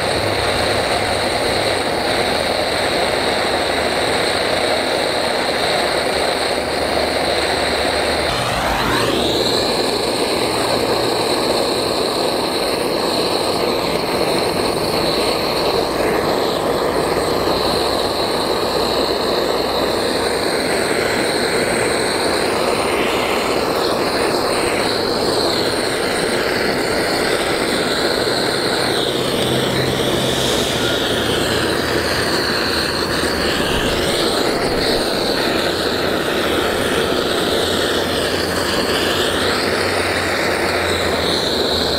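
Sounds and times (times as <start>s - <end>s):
gas torch hissing roar: 0.0s - 41.9s.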